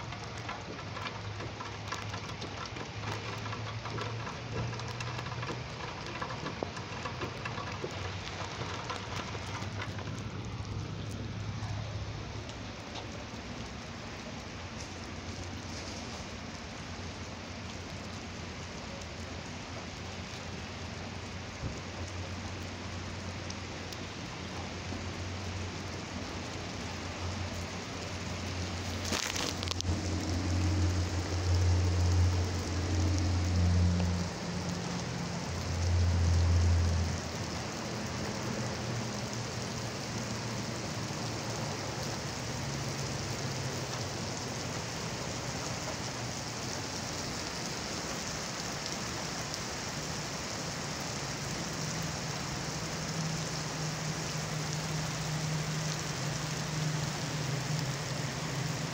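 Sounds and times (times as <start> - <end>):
heavy rain on pavement: 0.0 - 58.9.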